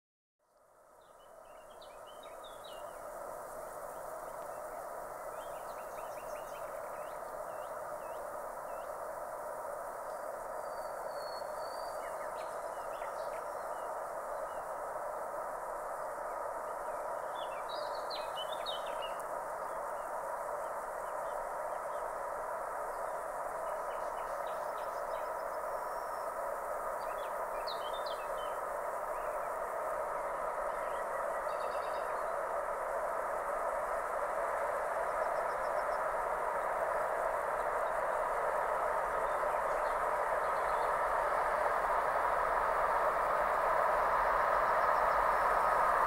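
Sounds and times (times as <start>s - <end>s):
distant freight train hum: 0.8s - 46.0s.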